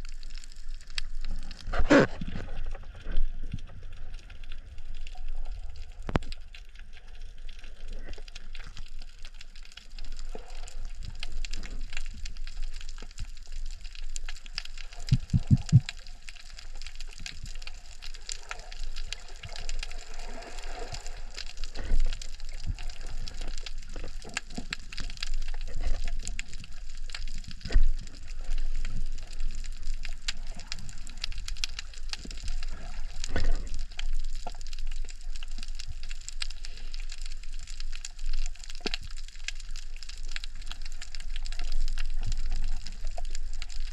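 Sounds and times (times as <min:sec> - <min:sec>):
underwater crackling and clicking: 0:00.0 - 0:43.9.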